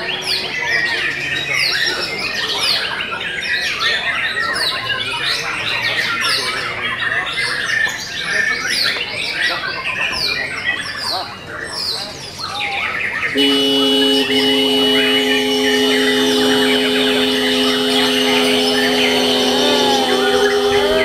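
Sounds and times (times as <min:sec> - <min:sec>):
birds singing: 0:00.0 - 0:21.0.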